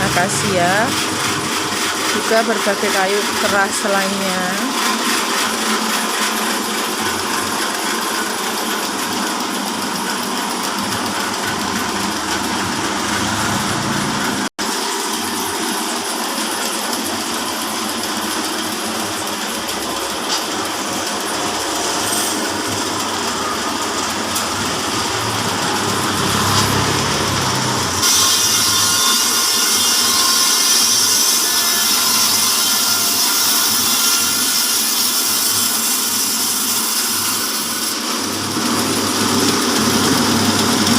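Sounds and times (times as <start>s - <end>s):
band saw sawing log: 0.0s - 40.9s.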